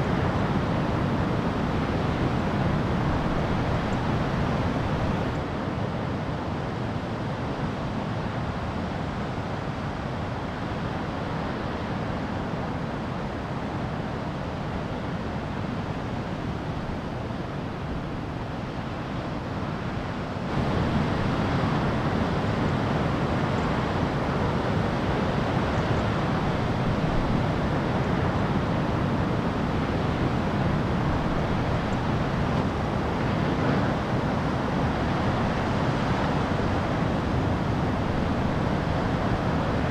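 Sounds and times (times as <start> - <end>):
ocean surf: 0.0 - 39.9.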